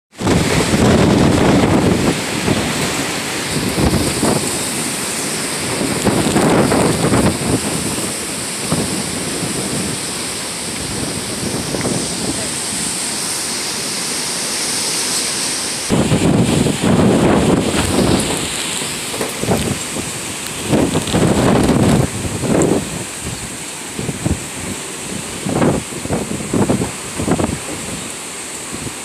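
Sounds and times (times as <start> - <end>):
wind buffeting microphone: 0.1 - 14.9, 15.6 - 29.0
rain hissing: 0.1 - 29.0.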